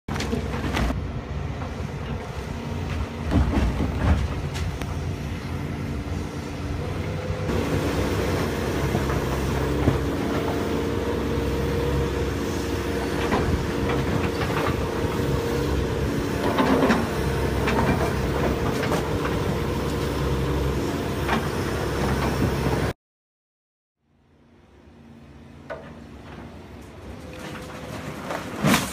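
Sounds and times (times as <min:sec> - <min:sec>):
excavator diesel engine running: 0:00.1 - 0:22.9, 0:24.4 - 0:28.6.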